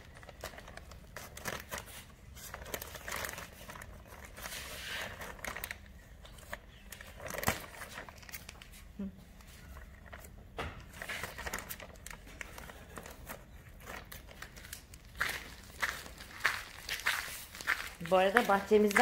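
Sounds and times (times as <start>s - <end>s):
plastic bag crinkling: 0.0s - 9.0s, 11.0s - 19.0s.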